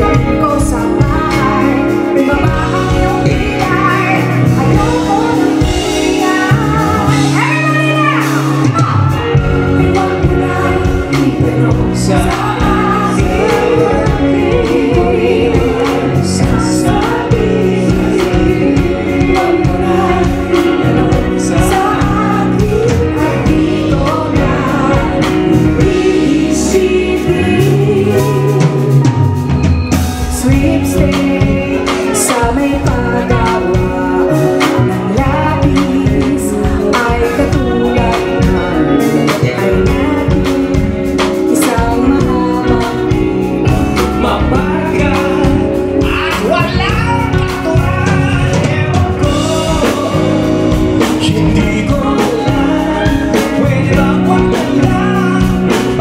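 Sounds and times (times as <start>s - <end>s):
woman singing into microphone: 0.0s - 29.2s, 30.2s - 56.0s
live band with drums: 0.0s - 56.0s.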